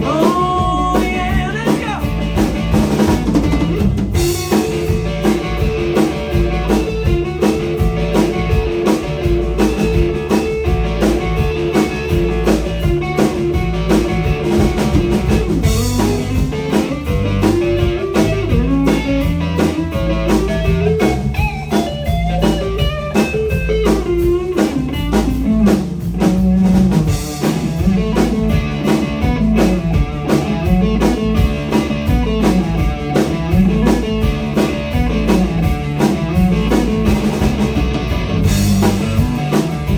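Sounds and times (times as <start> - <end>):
bass: 0.0 - 39.9
drum kit beat: 0.0 - 39.9
electric guitar bending notes: 0.0 - 39.9.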